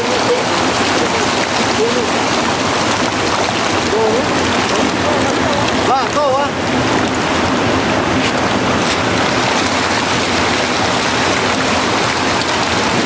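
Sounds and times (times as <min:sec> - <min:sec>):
water rushing and splashing: 0:00.0 - 0:13.0
fish thrashing at surface: 0:00.1 - 0:13.0.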